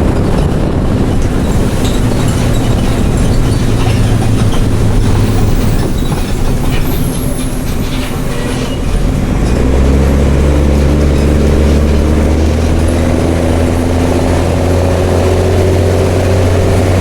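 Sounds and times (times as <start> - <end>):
bus diesel engine droning: 0.0 - 17.0
rattling road and body noise: 0.0 - 17.0.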